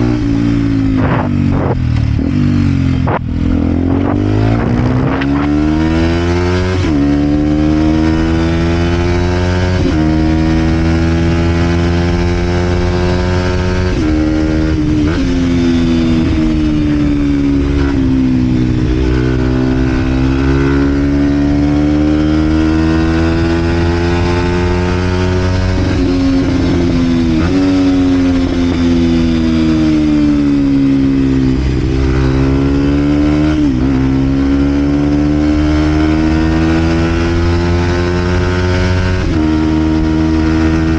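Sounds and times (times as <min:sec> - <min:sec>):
motorcycle engine revving through gears: 0:00.0 - 0:40.9.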